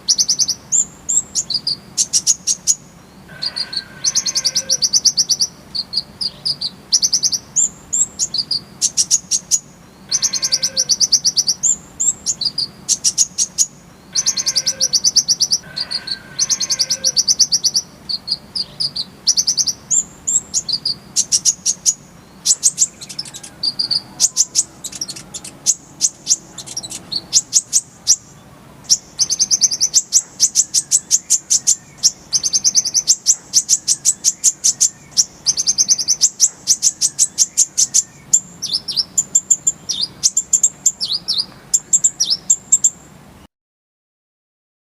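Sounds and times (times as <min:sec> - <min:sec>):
sunbird singing high rapid trills: 0:00.0 - 0:43.5.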